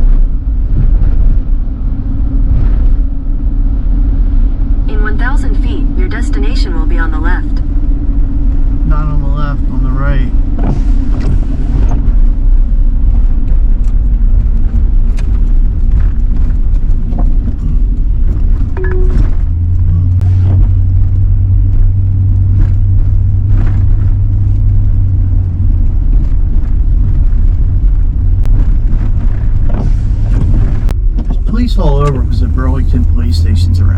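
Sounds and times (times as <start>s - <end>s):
deep drone: 0.0s - 33.9s
truck engine and tyre rumble: 0.0s - 33.9s.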